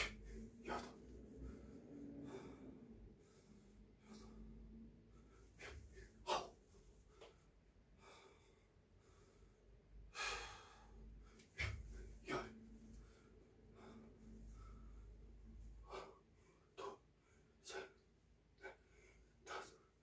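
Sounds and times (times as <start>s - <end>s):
man breathing and sniffing: 0.0s - 20.0s.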